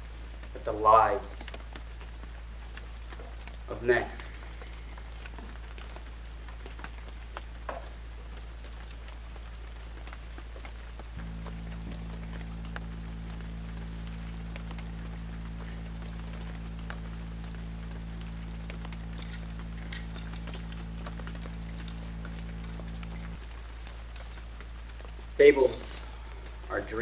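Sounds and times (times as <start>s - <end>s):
constant hiss: 0.0s - 27.0s
light crackles: 0.0s - 27.0s
low electrical hum: 0.0s - 27.0s.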